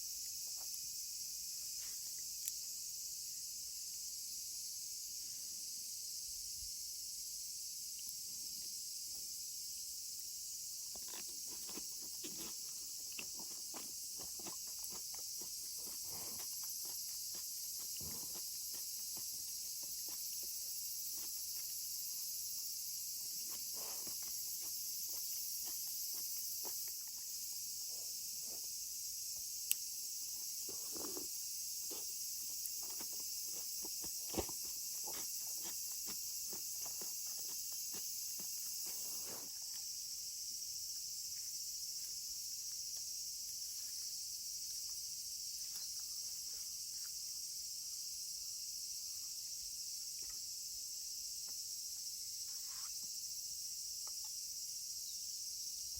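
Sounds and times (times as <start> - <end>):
insects chorus: 0.0 - 55.9.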